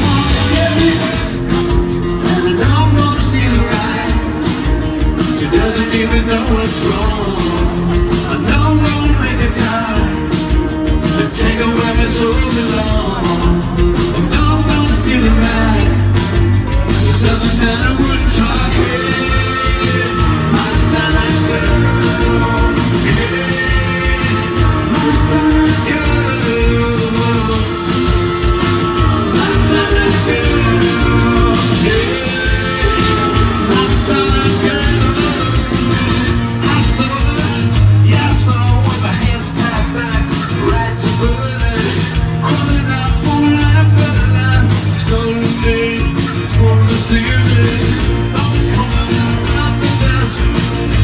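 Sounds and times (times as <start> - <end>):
bass guitar: 0.0 - 51.0
electric guitars: 0.0 - 51.0
live rock band playing: 0.0 - 51.0
steady drum beat: 0.0 - 51.0.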